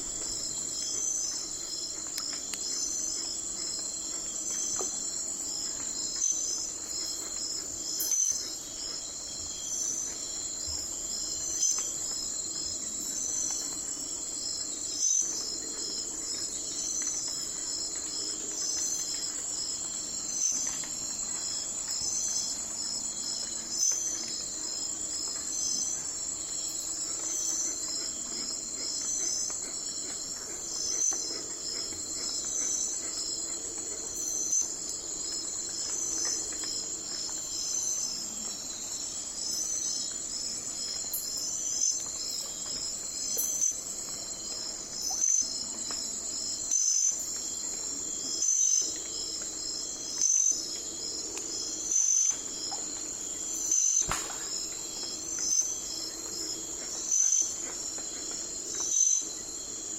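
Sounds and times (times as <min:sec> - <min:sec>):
bright insect chirp: 0:00.0 - 0:59.9
insects trilling: 0:00.0 - 0:59.9.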